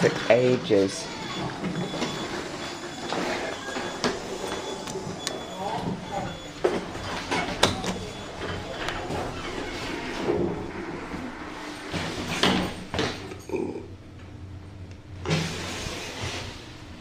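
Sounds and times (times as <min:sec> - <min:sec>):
lift doors sliding: 0:00.0 - 0:13.6, 0:15.2 - 0:16.9.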